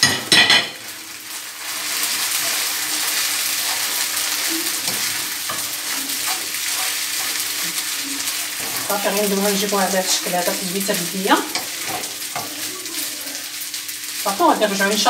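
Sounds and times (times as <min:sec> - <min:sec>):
noodles sizzling in a frying pan: 0:00.0 - 0:15.0.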